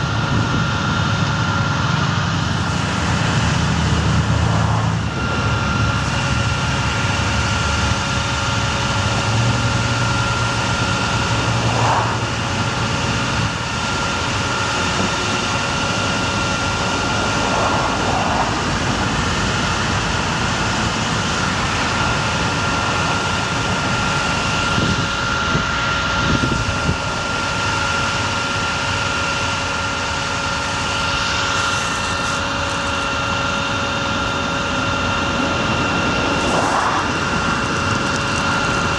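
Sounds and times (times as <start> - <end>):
thin high whine: 0.0 - 38.9
truck engine running: 0.0 - 38.9.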